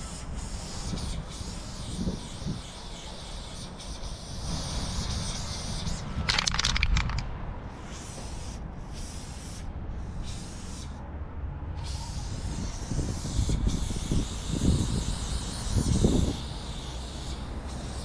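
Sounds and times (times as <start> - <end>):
spray-paint can hissing: 0.0 - 7.0, 7.8 - 11.0, 11.8 - 18.0.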